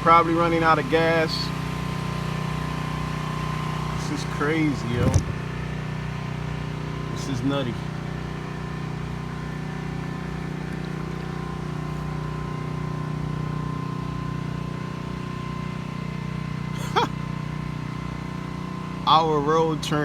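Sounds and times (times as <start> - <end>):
small engine humming: 0.0 - 20.0.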